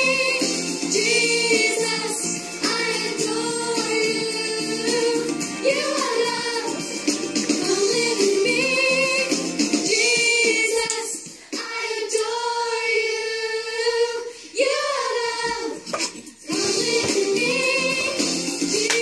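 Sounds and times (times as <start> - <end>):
children's song with voices singing: 0.0 - 19.0.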